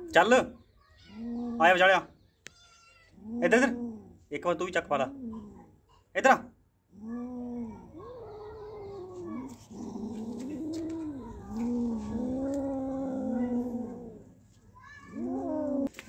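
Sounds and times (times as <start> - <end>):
kittens growling and yowling: 0.0 - 1.8, 2.6 - 5.8, 6.9 - 16.0.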